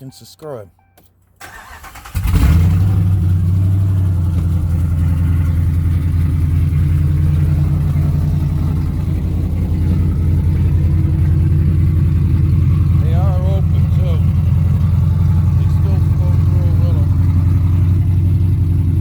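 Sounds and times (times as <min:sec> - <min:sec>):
truck engine revving and idling: 0:01.5 - 0:19.0.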